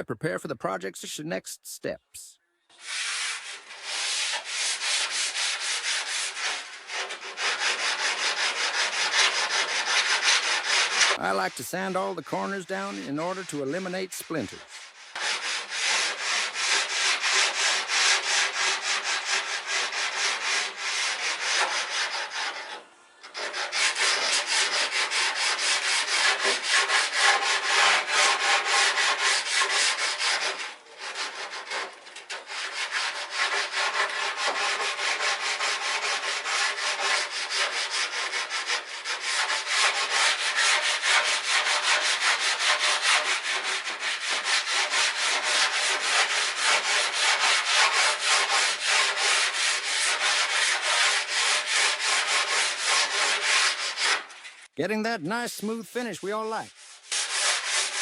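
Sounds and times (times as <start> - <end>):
sandpaper rubbing on wood: 2.8 - 54.7, 56.2 - 58.0.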